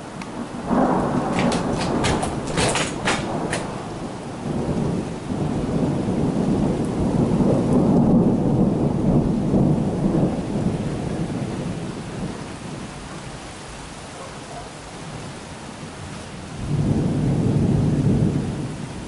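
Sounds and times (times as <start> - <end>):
rain hissing: 0.0 - 19.0
rolling thunder: 0.0 - 19.0.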